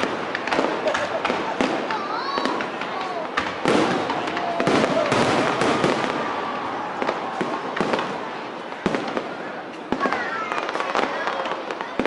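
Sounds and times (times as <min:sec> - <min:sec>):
faint crowd murmur: 0:00.0 - 0:12.0
fireworks crackling: 0:00.0 - 0:12.0.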